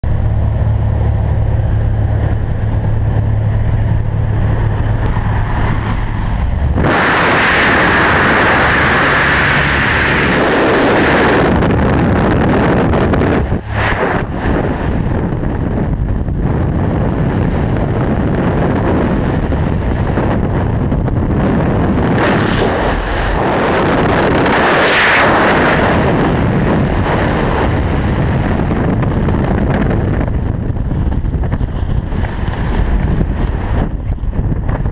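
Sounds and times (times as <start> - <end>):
freefall wind buffeting microphone: 0.0 - 34.9
propeller aircraft engine droning: 0.0 - 34.9.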